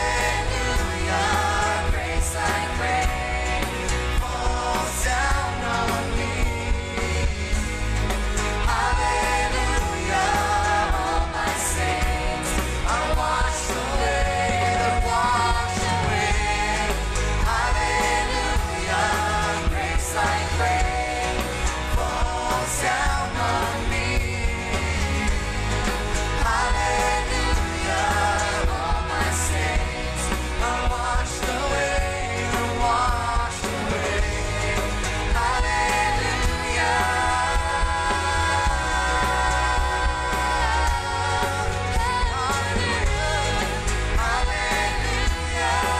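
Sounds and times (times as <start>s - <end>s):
bass line: 0.0s - 45.9s
guitar: 0.0s - 45.9s
keyboard: 0.0s - 45.9s
male and female voices singing: 0.0s - 45.9s
worship band playing: 0.0s - 45.9s.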